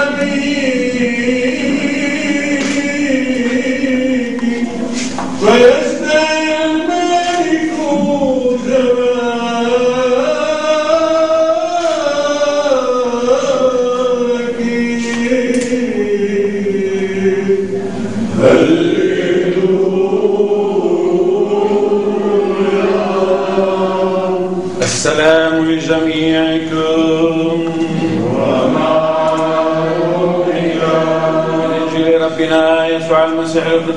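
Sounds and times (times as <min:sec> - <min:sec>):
men chanting a hymn: 0:00.0 - 0:33.9.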